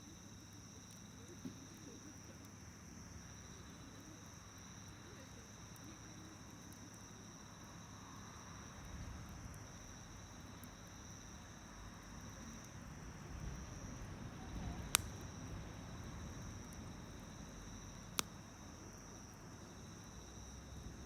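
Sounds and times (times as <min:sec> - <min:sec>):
campfire crackling: 0:00.0 - 0:21.0
crickets chirping: 0:00.0 - 0:21.0.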